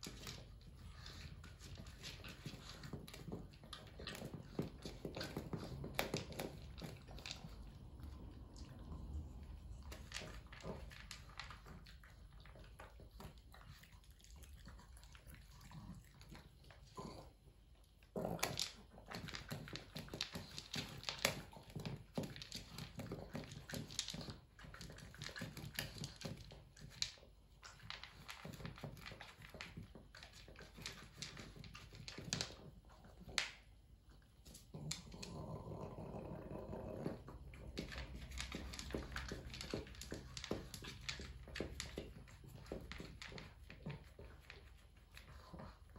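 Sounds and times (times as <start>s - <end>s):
dog crunching and chewing food: 0.0s - 45.9s.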